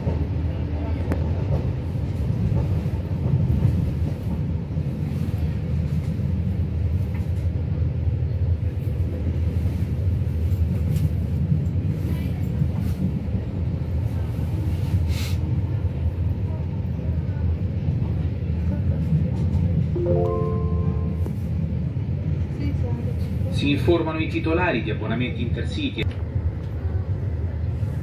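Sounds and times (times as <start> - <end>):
train wheels on track: 0.0 - 27.0.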